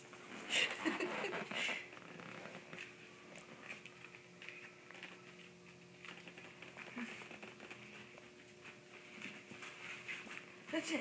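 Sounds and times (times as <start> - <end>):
ferret scratching and rustling: 1.0 - 11.0.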